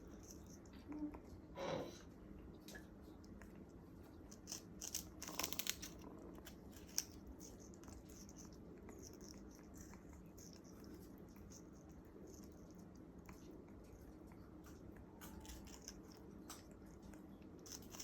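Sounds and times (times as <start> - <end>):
parrot chewing sugarcane: 0.0 - 1.5, 2.8 - 18.0.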